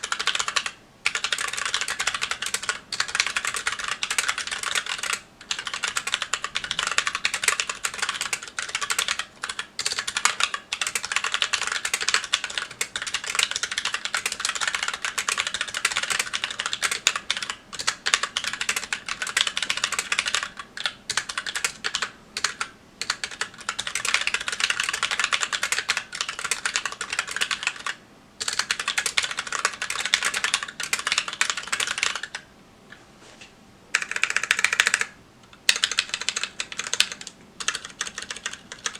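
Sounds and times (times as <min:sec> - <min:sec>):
typing on mechanical keyboard: 0:00.0 - 0:32.4, 0:33.9 - 0:38.9.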